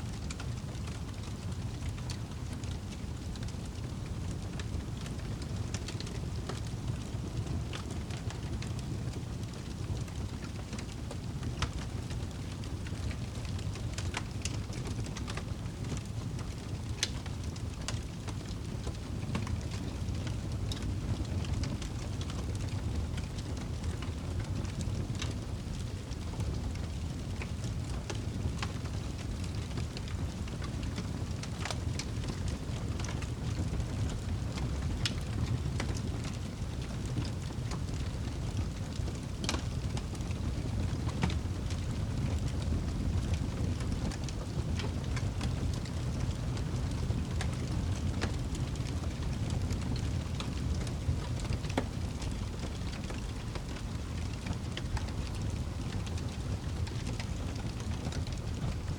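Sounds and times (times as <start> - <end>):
campfire crackling and popping: 0.2 - 58.9.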